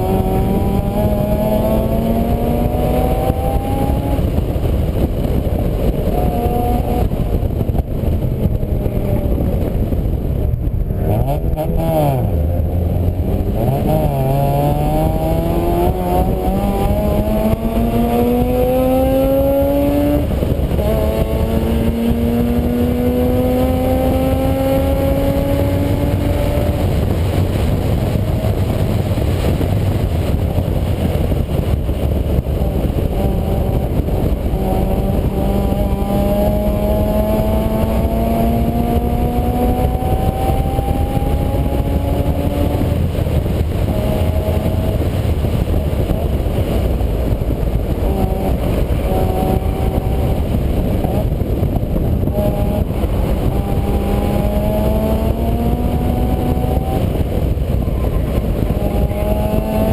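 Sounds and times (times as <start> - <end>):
vehicle engine accelerating: 0.0 - 59.9
wind and road noise rumble: 0.0 - 59.9.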